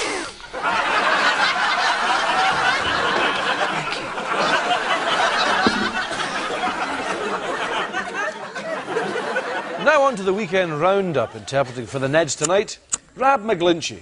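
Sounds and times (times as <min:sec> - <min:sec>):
studio audience laughing: 0:00.4 - 0:12.1.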